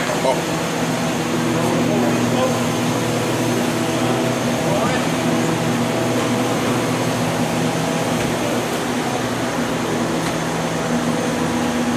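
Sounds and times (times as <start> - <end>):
steady machine hum: 0.0 - 11.9.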